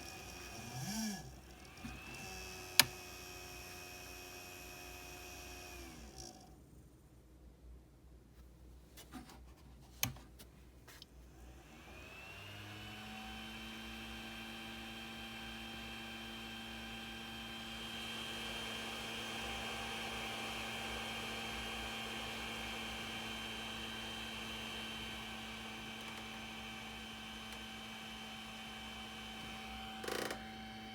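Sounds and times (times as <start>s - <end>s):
printer fan whining and humming: 0.0s - 6.4s, 11.7s - 30.9s.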